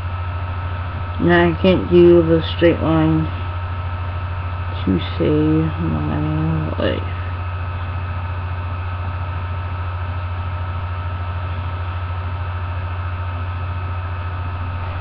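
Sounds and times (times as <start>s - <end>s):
electrical mains hum with hiss: 0.0s - 15.0s.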